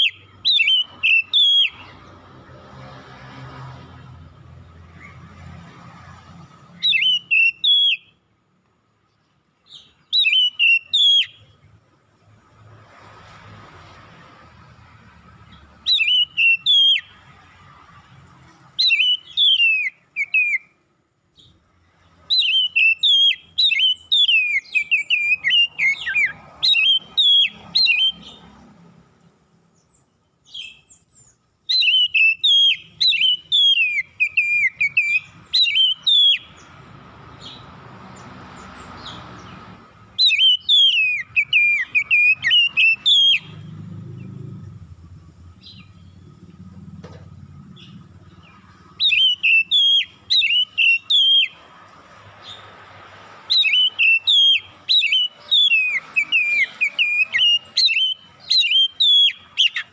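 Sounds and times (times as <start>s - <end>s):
songbird whistling song: 0.0s - 2.2s, 4.6s - 8.3s, 9.6s - 11.8s, 15.4s - 29.0s, 29.7s - 46.8s, 47.5s - 59.9s.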